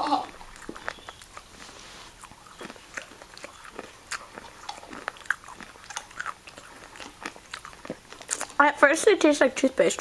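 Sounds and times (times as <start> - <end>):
person crunching peanuts: 0.1 - 8.6.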